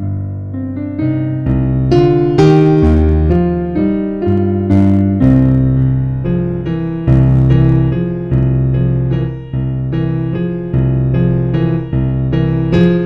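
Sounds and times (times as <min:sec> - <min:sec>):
instrumental music with held chords: 0:00.0 - 0:13.0.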